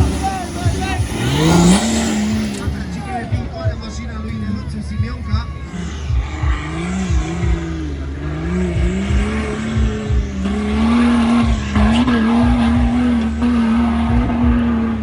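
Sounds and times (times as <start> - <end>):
engine working hard under load: 0.0 - 15.0
low thumps: 0.0 - 15.0.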